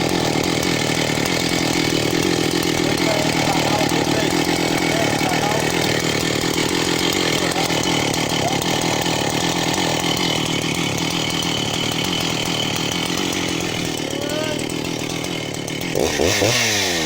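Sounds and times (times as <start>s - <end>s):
chainsaw ripping a log: 0.0s - 17.0s.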